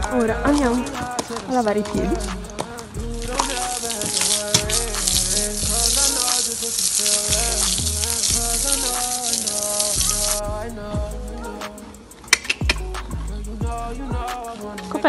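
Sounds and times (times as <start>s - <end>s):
hose water spraying: 0.0s - 13.6s
background music: 0.0s - 15.0s.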